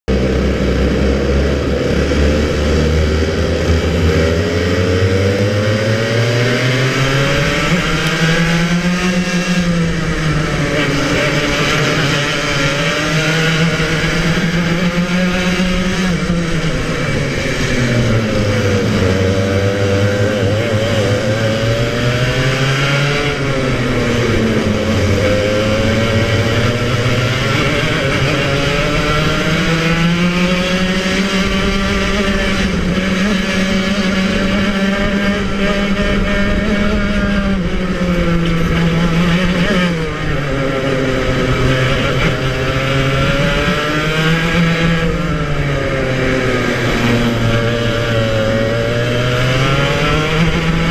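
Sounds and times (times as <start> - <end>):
two-stroke kart engine racing: 0.1 - 50.9.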